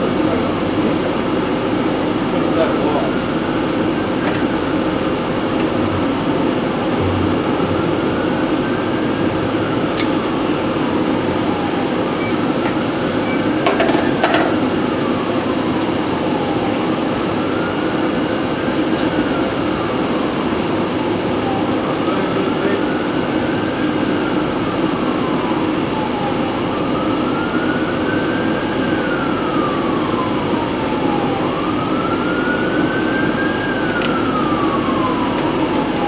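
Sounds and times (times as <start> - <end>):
mechanical drone with whine: 0.0 - 36.0.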